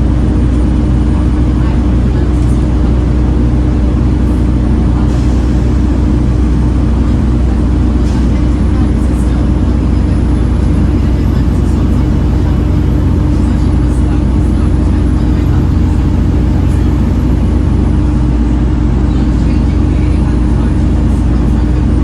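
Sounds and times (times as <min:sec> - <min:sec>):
bus engine droning: 0:00.0 - 0:22.0
steady engine whine: 0:00.0 - 0:22.0.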